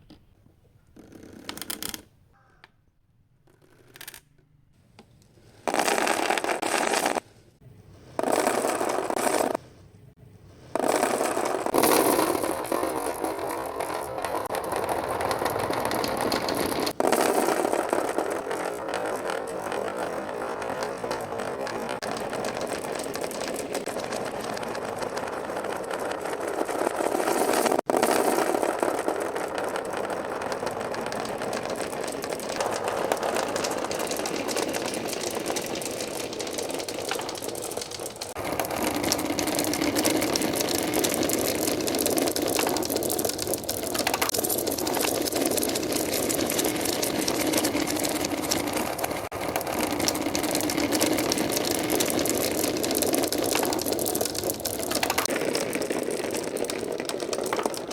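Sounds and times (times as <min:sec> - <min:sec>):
marbles rattling down wooden slopes: 0:05.6 - 0:07.3, 0:08.1 - 0:09.6, 0:10.7 - 0:57.9.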